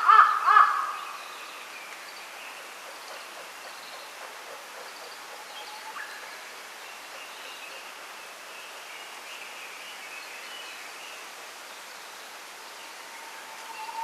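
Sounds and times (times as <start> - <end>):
faint birdsong: 0.0 - 14.0
wind rustling through bamboo: 0.0 - 14.0.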